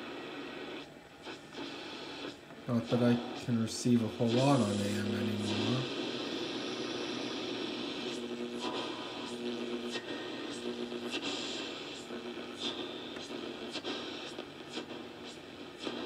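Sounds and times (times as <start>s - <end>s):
faint hum: 0.0s - 16.0s
radio static hiss: 0.0s - 16.0s.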